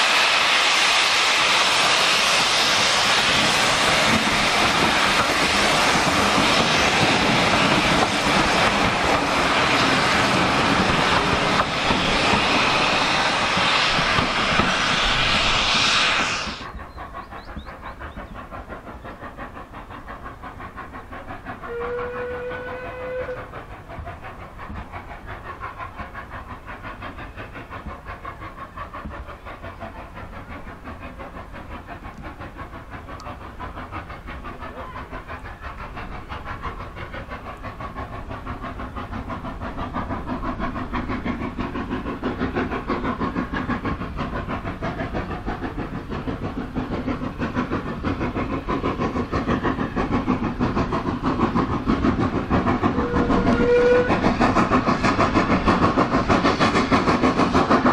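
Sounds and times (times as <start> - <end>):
steam locomotive puffing: 0.0 - 57.9.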